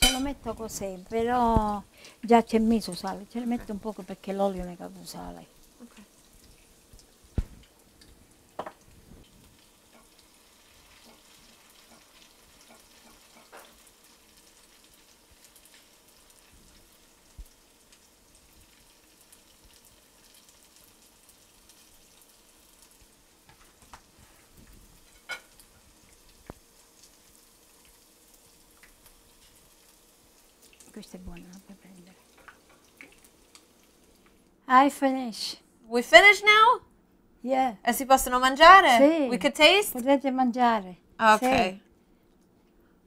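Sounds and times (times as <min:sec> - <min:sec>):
patties sizzling in oil: 0:00.0 - 0:34.9.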